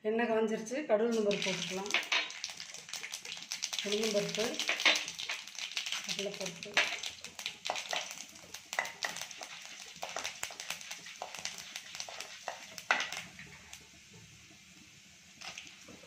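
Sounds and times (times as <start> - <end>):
seeds crackling in hot oil: 1.1 - 16.0.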